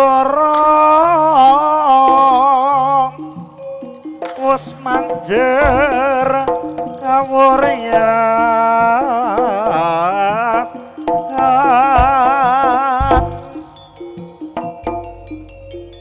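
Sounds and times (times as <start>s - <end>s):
drum strokes: 0.0s - 16.0s
held gamelan tones: 0.0s - 16.0s
pitched lead melody with vibrato: 0.0s - 16.0s.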